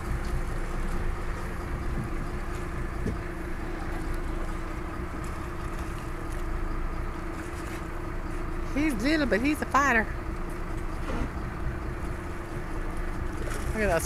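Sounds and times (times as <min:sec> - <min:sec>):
boat engine humming: 0:00.0 - 0:14.0
wind and water rushing: 0:00.0 - 0:14.0.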